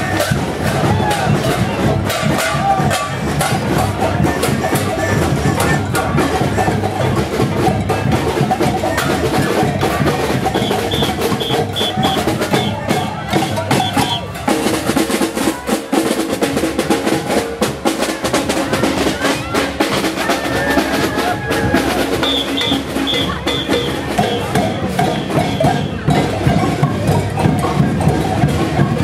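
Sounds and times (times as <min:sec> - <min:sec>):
samba drums playing: 0:00.0 - 0:29.0.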